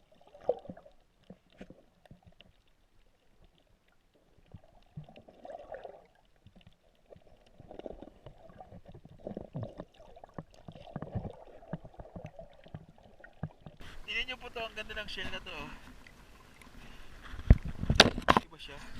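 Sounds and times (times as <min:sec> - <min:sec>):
water sloshing and splashing: 0:00.0 - 0:18.8.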